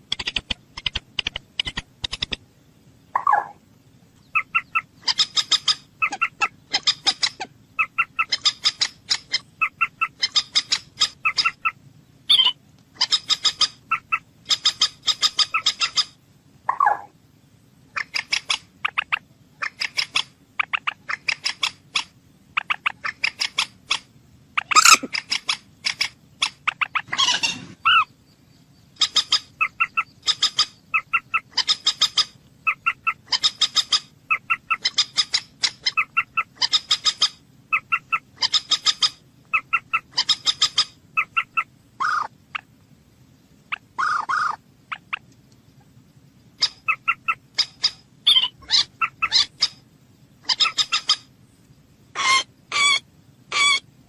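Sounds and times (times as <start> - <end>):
moorhen clicking calls: 3.1 - 3.6, 4.2 - 17.1, 17.9 - 28.1, 28.9 - 42.7, 43.7 - 45.4, 46.5 - 49.8, 50.4 - 51.3.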